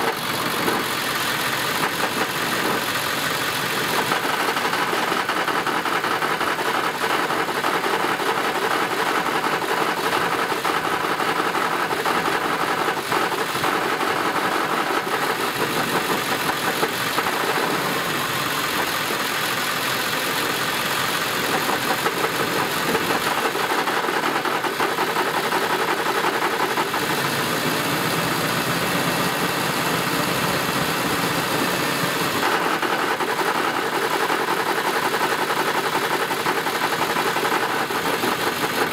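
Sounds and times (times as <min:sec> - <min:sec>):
diesel engine knocking and rattling: 0:00.0 - 0:38.9.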